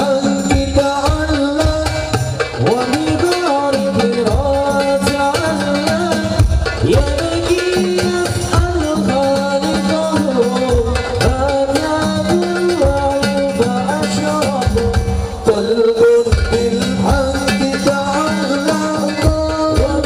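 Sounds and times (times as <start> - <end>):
hand drums: 0.0 - 20.0.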